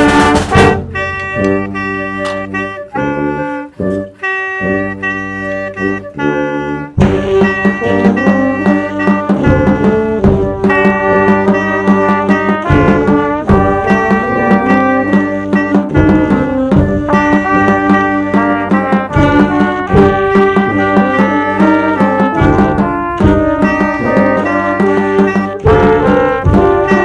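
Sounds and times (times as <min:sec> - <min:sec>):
snare and bass drum strokes: 0:00.0 - 0:04.4, 0:06.9 - 0:27.0
wind band playing: 0:00.0 - 0:27.0.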